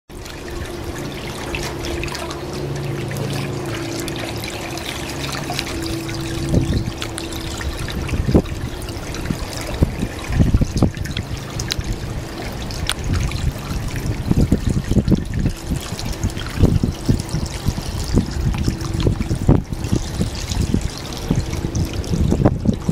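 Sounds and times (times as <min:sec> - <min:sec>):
manatee splashing and gulping: 0:00.1 - 0:22.9
steady low hum: 0:00.1 - 0:22.9
water trickling into water: 0:00.1 - 0:22.9.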